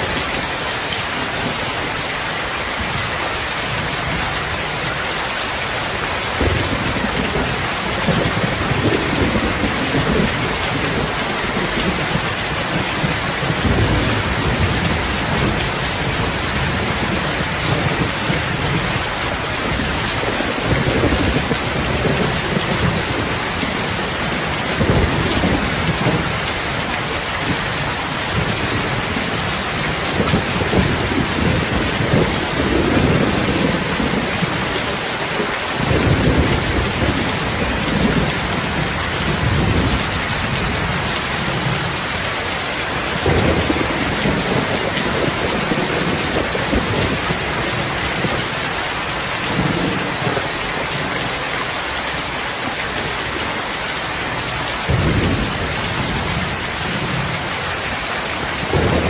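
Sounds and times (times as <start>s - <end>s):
heavy rain: 0.0s - 59.0s
thunder rumbles: 2.8s - 52.0s, 54.0s - 59.0s.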